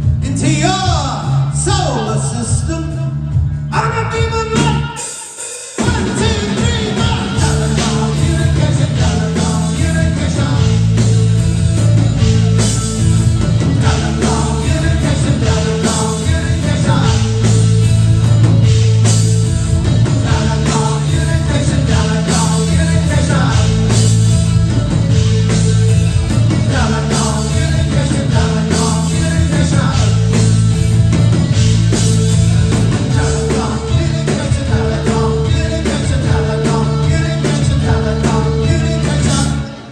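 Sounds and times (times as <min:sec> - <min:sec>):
steady bass: 0:00.0 - 0:05.2, 0:05.8 - 0:39.9
drums: 0:00.0 - 0:39.9
live rock band playing: 0:00.0 - 0:39.9.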